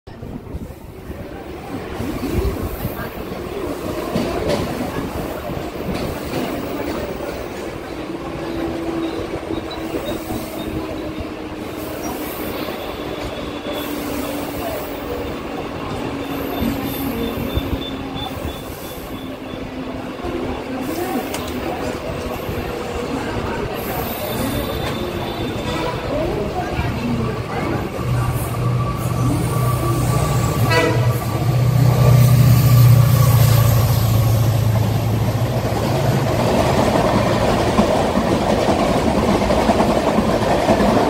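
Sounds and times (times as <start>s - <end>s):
electric train rumbling: 0.1s - 41.0s.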